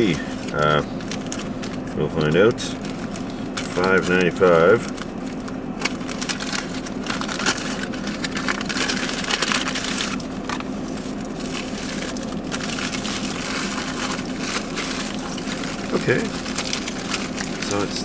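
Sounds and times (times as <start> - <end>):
foil wrapper crinkling: 0.0 - 18.0
steady low hum: 0.0 - 18.0.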